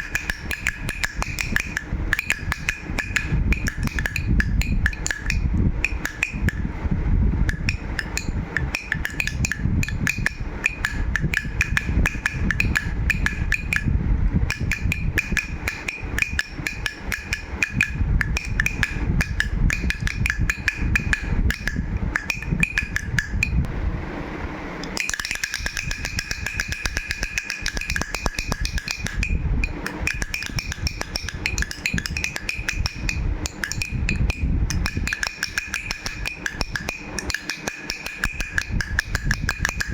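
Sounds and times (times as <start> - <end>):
baby rattle shaken rapidly: 0.0 - 6.9, 7.5 - 23.6, 25.0 - 39.9.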